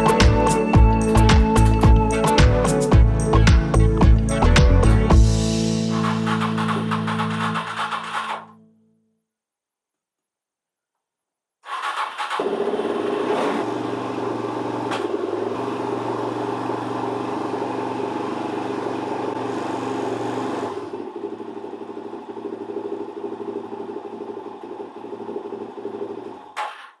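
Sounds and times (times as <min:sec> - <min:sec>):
motorcycle engine running: 0:00.0 - 0:08.7, 0:12.2 - 0:26.6.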